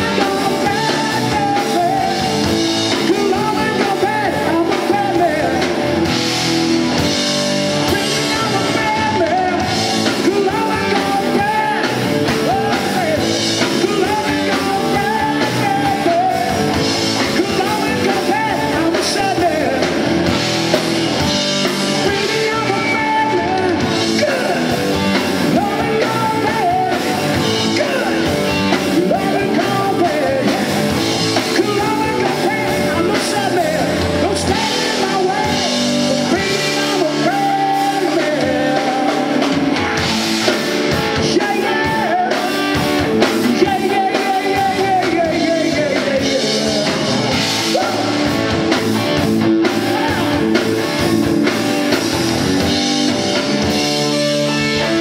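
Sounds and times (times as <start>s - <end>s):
man singing: 0.0s - 6.2s, 7.7s - 20.4s, 21.2s - 48.8s, 49.4s - 55.0s
bass guitar: 0.0s - 55.0s
drum kit: 0.0s - 55.0s
electric guitars: 0.0s - 55.0s.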